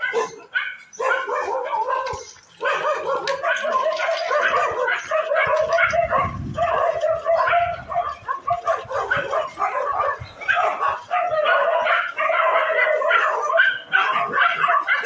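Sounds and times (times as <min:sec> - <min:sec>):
dogs barking and yelping: 0:00.0 - 0:15.0.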